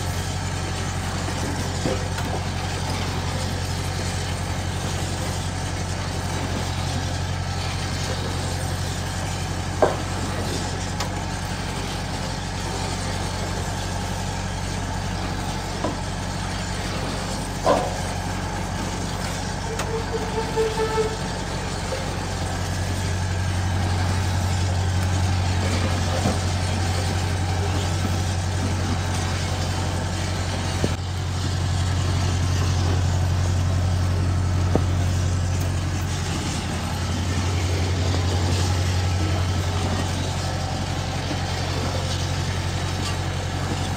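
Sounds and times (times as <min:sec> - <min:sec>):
electric gear motor humming: 0:00.0 - 0:43.9.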